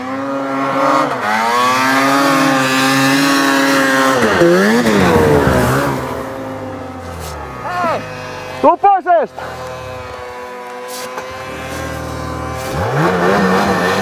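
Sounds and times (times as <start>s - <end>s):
snowmobile engine high revs: 0.0s - 14.0s.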